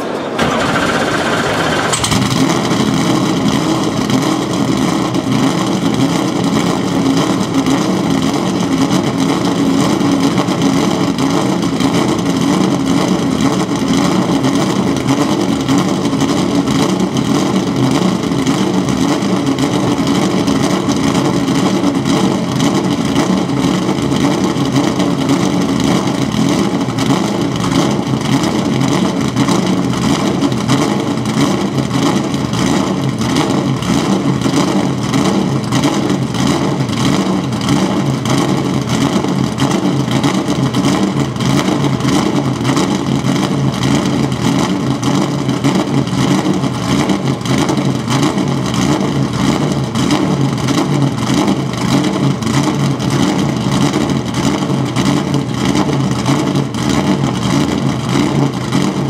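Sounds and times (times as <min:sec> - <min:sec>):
race car engine idling: 0:00.0 - 0:59.0.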